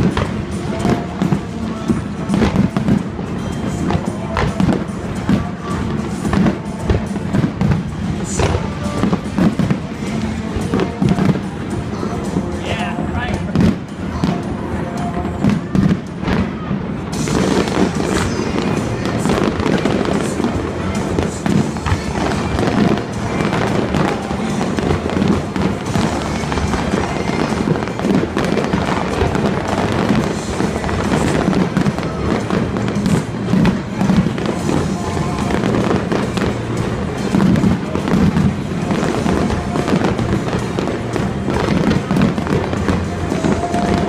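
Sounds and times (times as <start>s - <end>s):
crowd voices: 0.0s - 44.0s
fireworks crackling: 0.0s - 44.0s
music over loudspeaker: 0.0s - 44.0s.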